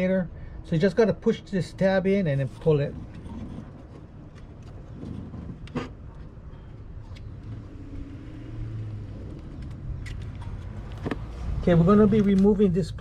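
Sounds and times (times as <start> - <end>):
motor vehicle rumble: 1.5 - 13.0.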